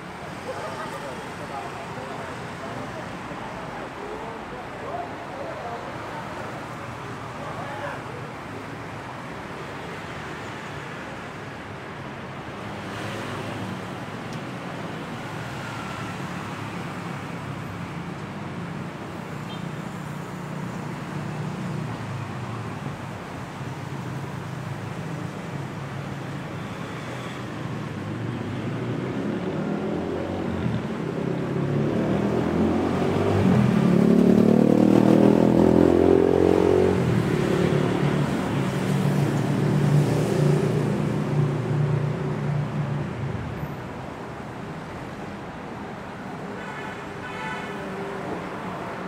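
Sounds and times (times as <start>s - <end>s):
road traffic hum: 0.0s - 49.0s.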